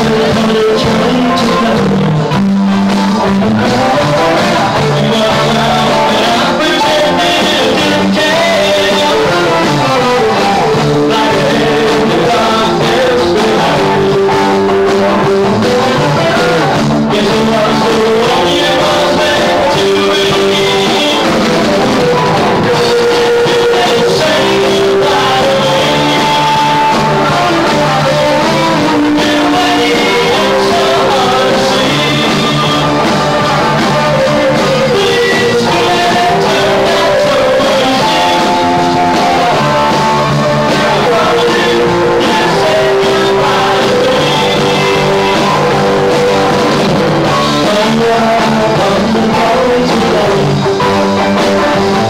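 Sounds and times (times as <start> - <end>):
vocalist singing into a microphone: 0.0 - 2.3, 3.3 - 51.7
drums: 0.0 - 52.0
electric guitars: 0.0 - 52.0.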